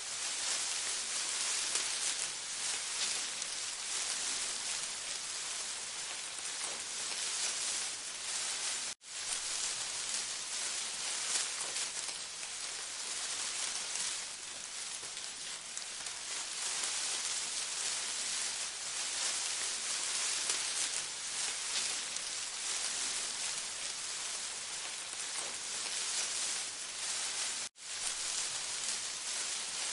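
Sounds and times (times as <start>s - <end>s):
steady hiss: 0.0s - 29.9s.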